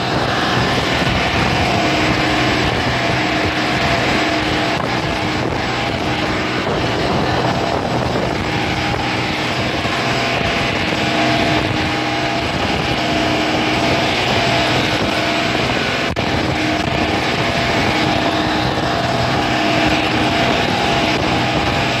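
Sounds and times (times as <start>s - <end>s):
motorboat engine running: 0.0s - 22.0s
water rushing past hull: 0.0s - 22.0s.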